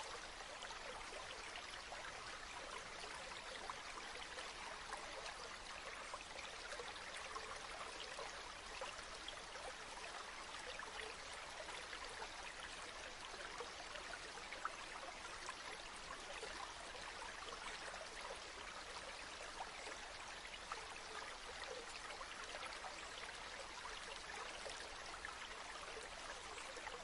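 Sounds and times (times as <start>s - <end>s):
stream water flowing: 0.0s - 27.0s.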